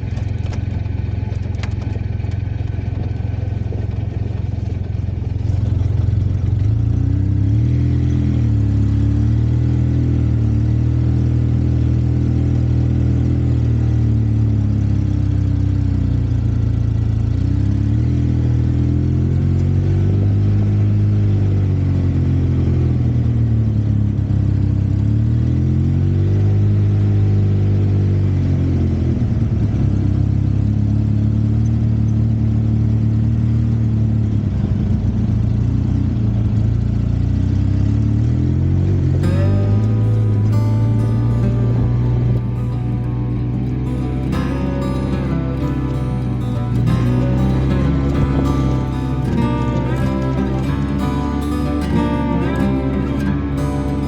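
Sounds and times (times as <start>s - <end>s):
off-road vehicle engine revving: 5.2s - 54.0s.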